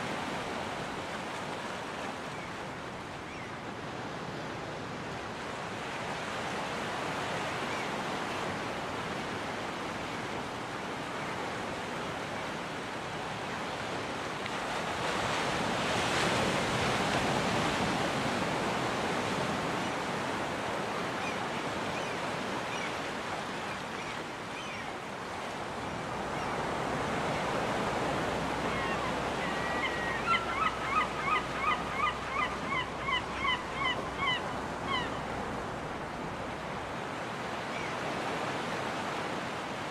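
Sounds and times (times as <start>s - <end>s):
ocean surf on beach: 0.0s - 39.9s.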